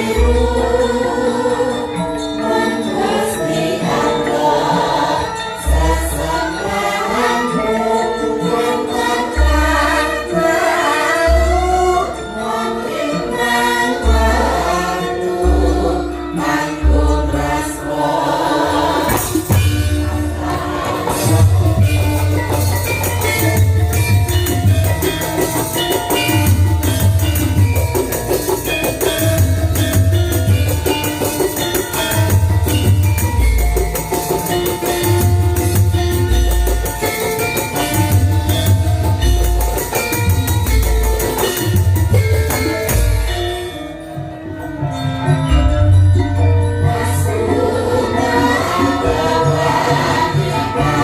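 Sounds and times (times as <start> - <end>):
gamelan music: 0.0 - 51.0
percussion: 0.0 - 51.0.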